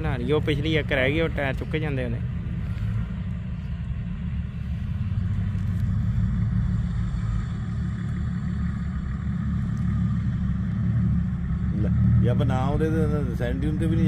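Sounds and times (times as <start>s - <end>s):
off-road vehicle engine rumble: 0.0s - 14.0s.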